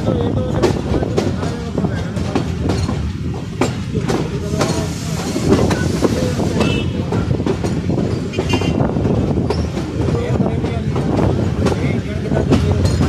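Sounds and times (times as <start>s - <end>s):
clickety-clack over rail joints: 0.0s - 13.0s
train wheels rumbling on rails: 0.0s - 13.0s.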